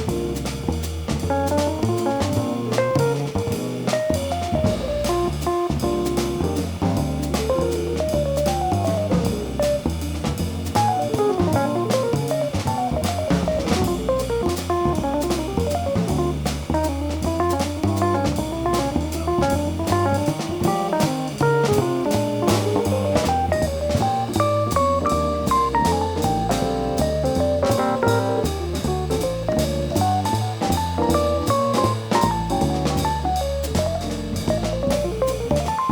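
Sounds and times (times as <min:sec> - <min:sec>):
bass: 0:00.0 - 0:35.9
drum kit: 0:00.0 - 0:35.9
jazz guitar melody: 0:00.0 - 0:35.9.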